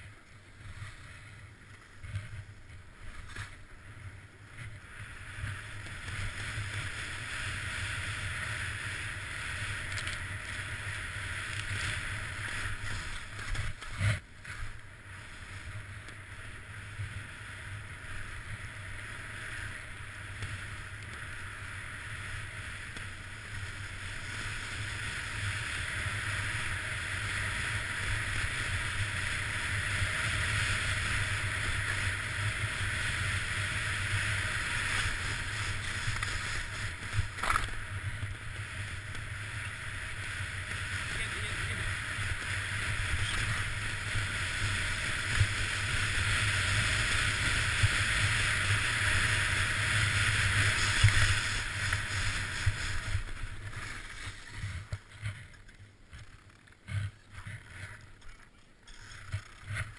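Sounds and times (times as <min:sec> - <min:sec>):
skis hissing over snow: 0:00.0 - 0:55.5.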